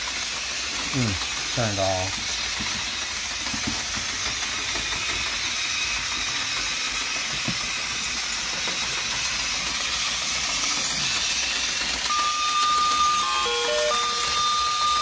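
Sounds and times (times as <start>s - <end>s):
toy train motor whirring: 0.0s - 15.0s.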